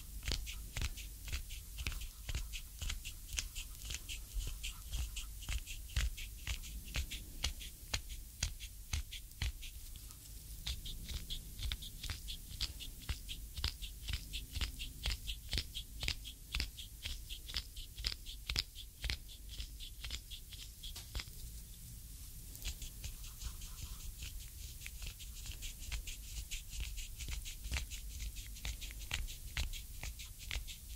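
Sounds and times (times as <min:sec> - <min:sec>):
sticky clicks of oiled skin: 0:00.0 - 0:21.4, 0:22.6 - 0:30.9.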